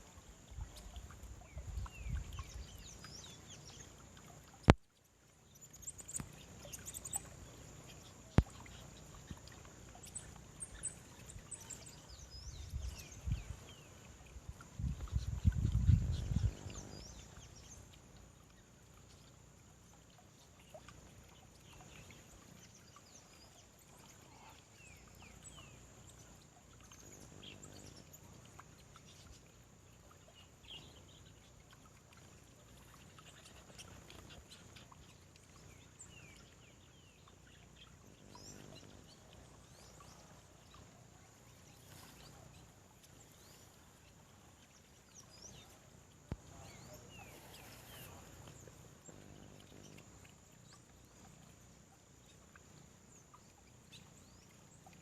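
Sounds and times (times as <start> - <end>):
faint birdsong chirps: 0.0 - 55.0
steady high-pitched hum: 0.0 - 55.0.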